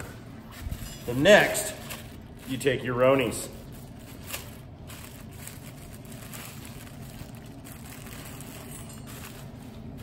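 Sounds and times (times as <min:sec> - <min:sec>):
steady low hum: 0:00.0 - 0:10.0
plastic bag rustling: 0:00.1 - 0:10.0.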